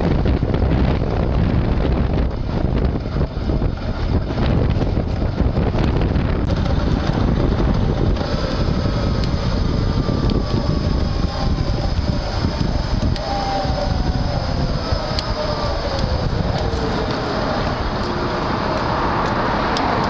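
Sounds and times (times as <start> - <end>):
hub motor whine: 0.0 - 20.0
wind rumble on microphone: 0.0 - 20.0.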